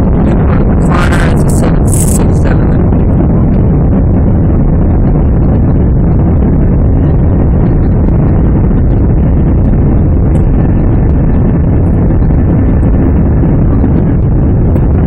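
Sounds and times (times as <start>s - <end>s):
jet engine and airflow in cabin: 0.0s - 15.0s.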